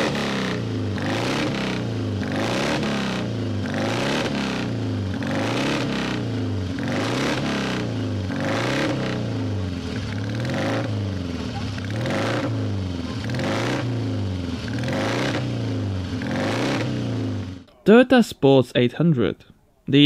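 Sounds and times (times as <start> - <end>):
motorcycle engine revving: 0.0 - 17.7.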